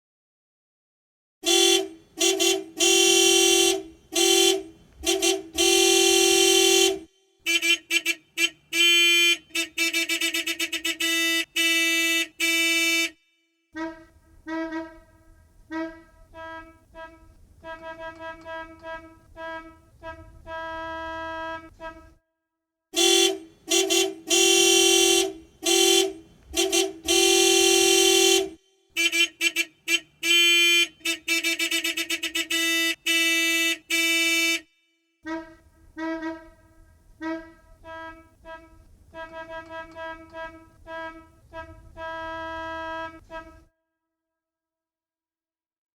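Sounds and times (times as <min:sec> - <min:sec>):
car horn honking: 0:01.4 - 0:22.2, 0:23.0 - 0:43.7.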